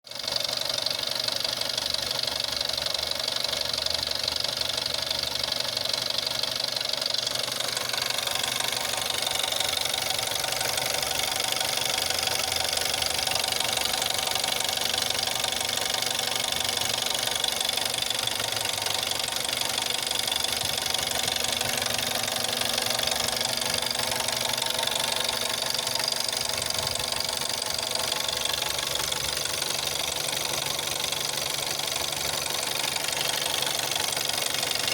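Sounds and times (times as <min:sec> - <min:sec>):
car engine knocking and rattling: 0:00.1 - 0:34.9.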